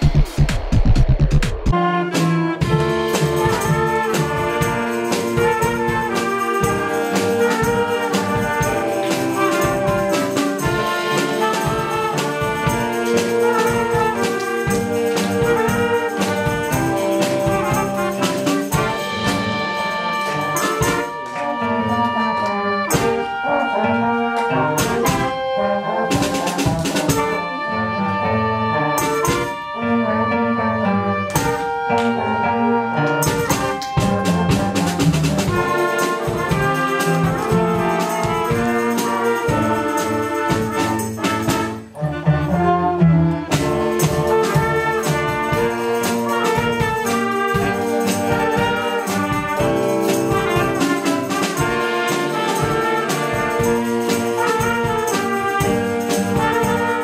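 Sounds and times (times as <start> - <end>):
drum kit beat: 0.0 - 28.1, 28.8 - 29.7, 31.3 - 57.0
wind band playing: 1.5 - 57.0.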